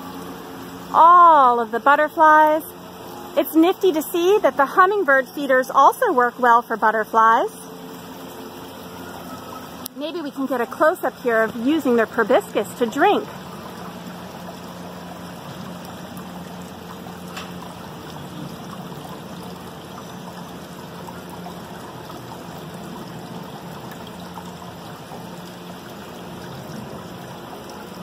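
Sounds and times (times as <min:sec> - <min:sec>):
water trickling from fountain: 0:00.0 - 0:28.0.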